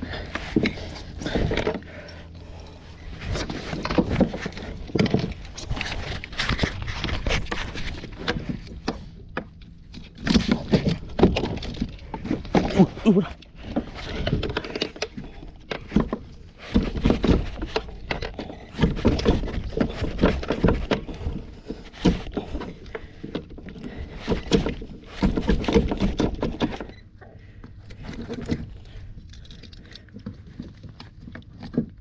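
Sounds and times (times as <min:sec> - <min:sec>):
fish thrashing on plastic kayak: 0:00.0 - 0:32.0.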